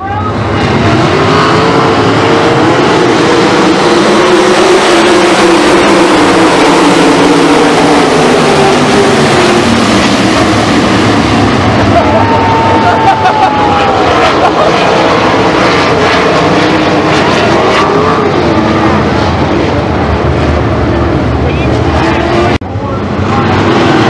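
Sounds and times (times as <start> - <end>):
race cars roaring past: 0.0 - 24.0.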